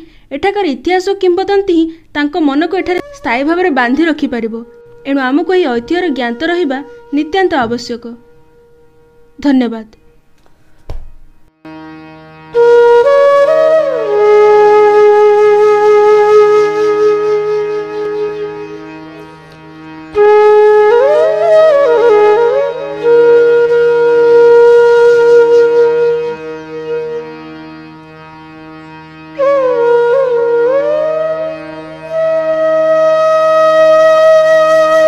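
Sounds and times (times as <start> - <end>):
slow flute melody: 2.7 - 9.4, 11.6 - 35.0.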